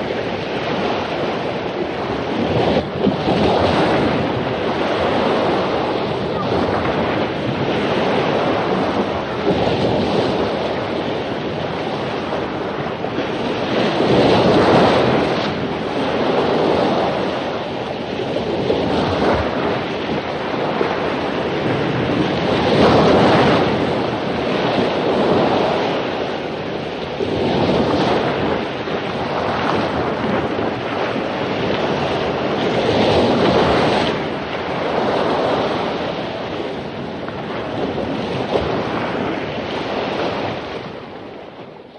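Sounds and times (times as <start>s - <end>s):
waves breaking on a beach: 0.0s - 41.9s.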